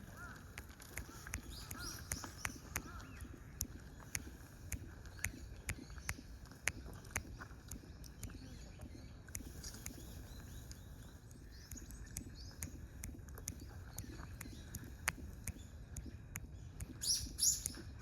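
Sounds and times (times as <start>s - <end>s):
sharp clicks: 0.2s - 8.5s, 9.3s - 10.2s, 11.6s - 18.0s
faint bird chirps: 1.0s - 18.0s.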